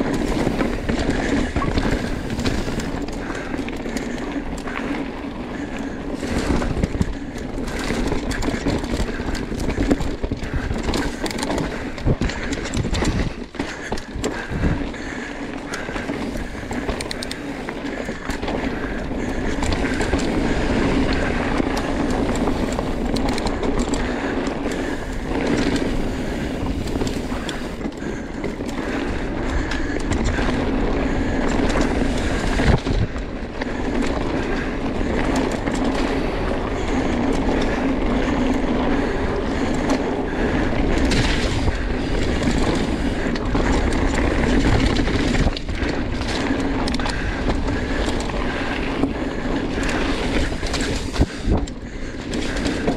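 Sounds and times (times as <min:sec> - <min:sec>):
bike chain and frame rattling: 0:00.0 - 0:52.9
tyres rolling over dirt: 0:00.0 - 0:52.9.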